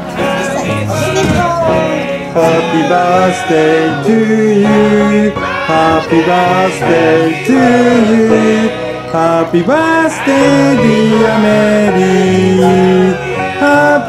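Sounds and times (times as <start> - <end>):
music with singing voices: 0.0 - 14.0.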